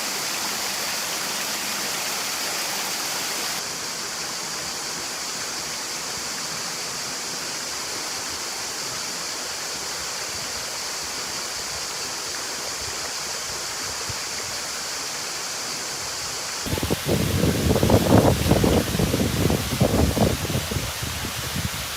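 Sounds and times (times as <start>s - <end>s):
waterfall and stream rushing: 0.0s - 21.9s.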